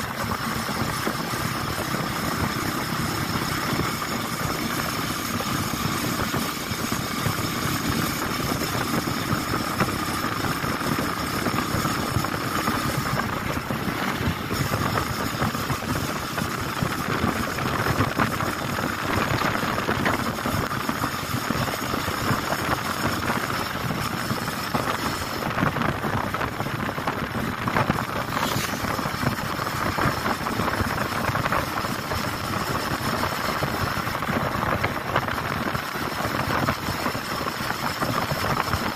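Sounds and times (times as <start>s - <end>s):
motorcycle engine: 0.0s - 38.9s
wind buffeting microphone: 0.0s - 38.9s.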